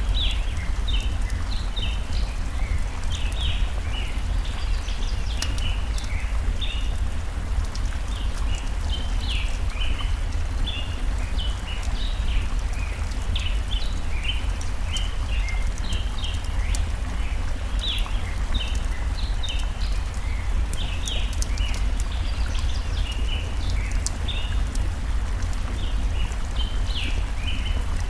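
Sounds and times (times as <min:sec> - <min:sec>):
campfire crackling: 0:00.0 - 0:28.0
flowing stream water: 0:00.0 - 0:28.0.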